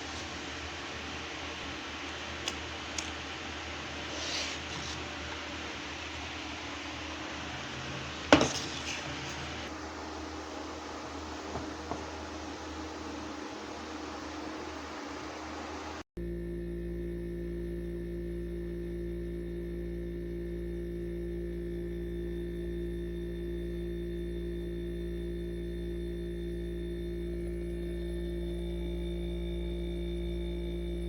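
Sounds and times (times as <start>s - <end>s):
ice cream maker motor hum: 0.0s - 31.0s.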